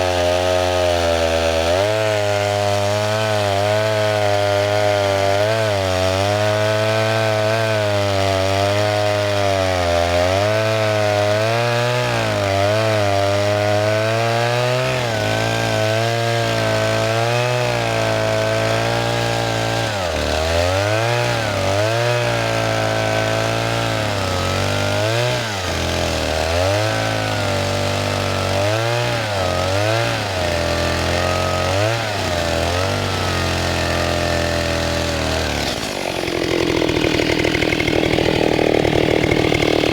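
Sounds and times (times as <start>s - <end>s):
two-stroke chainsaw at high revs: 0.0s - 39.9s.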